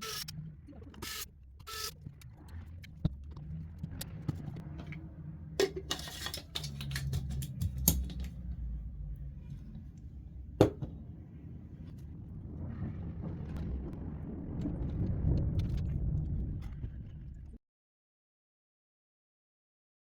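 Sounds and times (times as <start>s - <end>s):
low steady hum: 0.0s - 17.6s.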